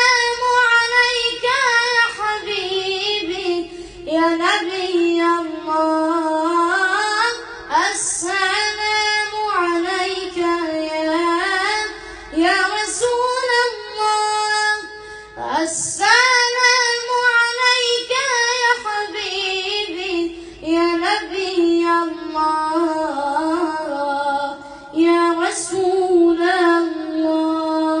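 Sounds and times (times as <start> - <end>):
boy singing into a microphone: 0.0 - 28.0.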